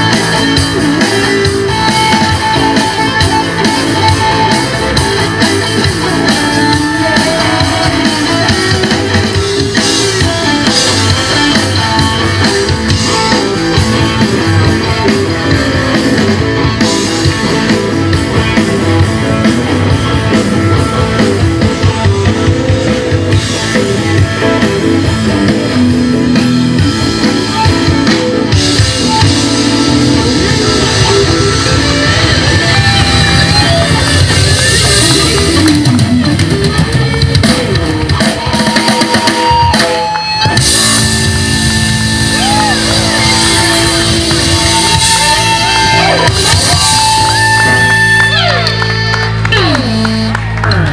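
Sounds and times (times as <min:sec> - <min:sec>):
drum kit: 0:00.0 - 0:50.9
electric guitars: 0:00.0 - 0:50.9.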